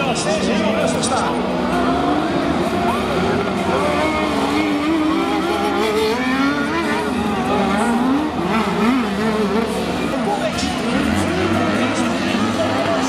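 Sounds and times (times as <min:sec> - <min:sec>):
lawn mower engines revving: 0:00.0 - 0:13.0.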